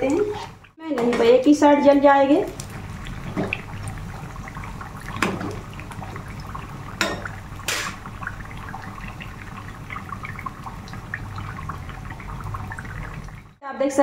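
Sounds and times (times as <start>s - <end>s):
dough sizzling in hot oil: 1.8s - 13.6s.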